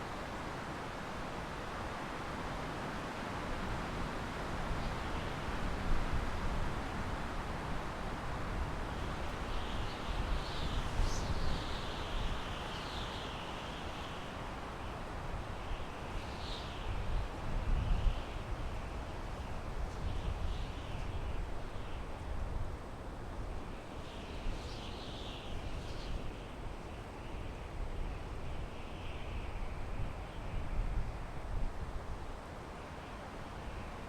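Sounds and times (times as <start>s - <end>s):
wind through pine trees: 0.0s - 34.0s.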